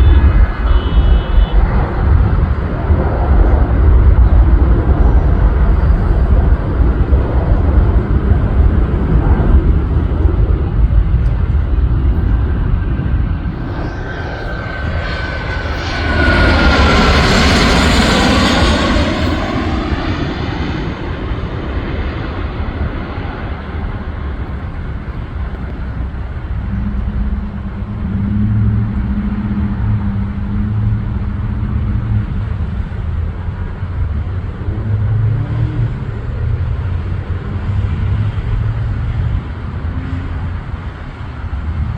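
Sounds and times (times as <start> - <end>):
jet aircraft passing overhead: 0.0 - 41.9.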